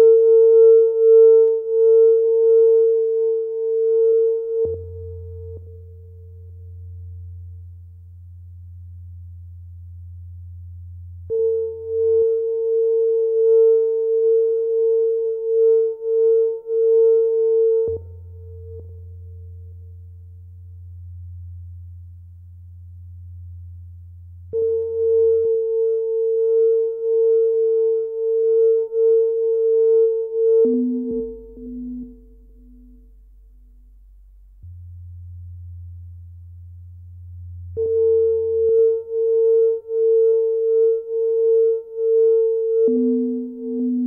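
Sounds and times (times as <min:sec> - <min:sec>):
low electronic hum: 0:00.0 - 0:44.0.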